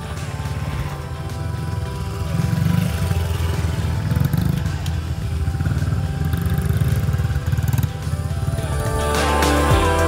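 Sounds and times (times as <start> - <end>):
dirt bike engine passing: 0.0 - 10.0.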